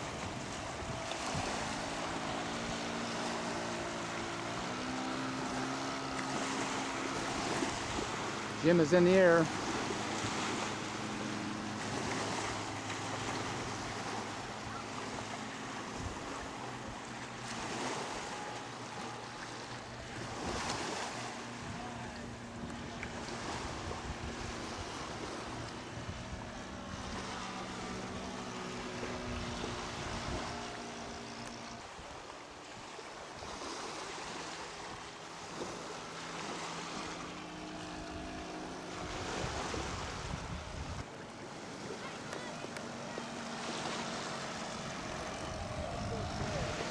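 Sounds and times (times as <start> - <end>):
model plane engine drone: 0.0 - 46.9
wind buffeting microphone: 0.0 - 46.9.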